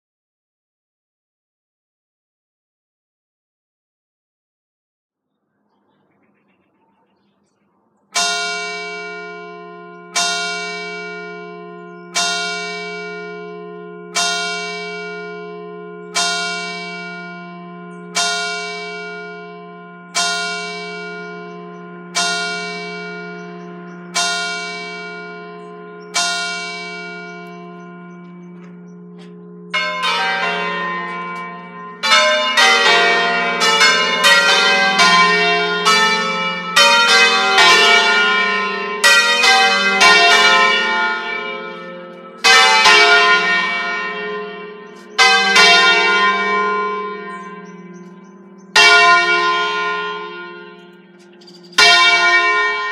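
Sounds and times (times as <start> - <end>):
church bells ringing: 5.6 - 52.9
clock bell striking: 8.2 - 52.9.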